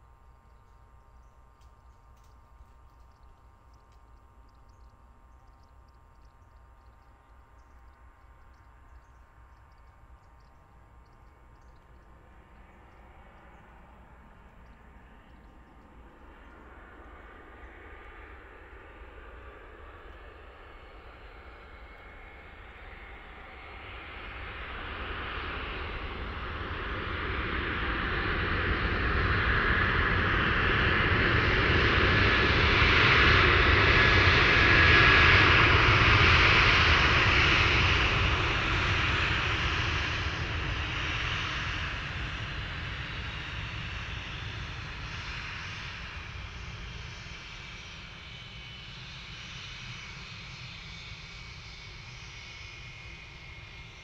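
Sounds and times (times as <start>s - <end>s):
faint high whine: 0.0s - 54.0s
jet airliner engines: 3.8s - 54.0s.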